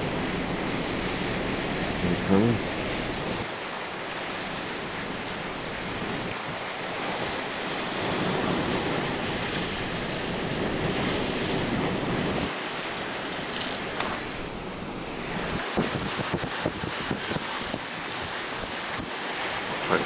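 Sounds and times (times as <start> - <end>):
surf breaking on shore: 0.0 - 20.0
wind: 0.0 - 20.0.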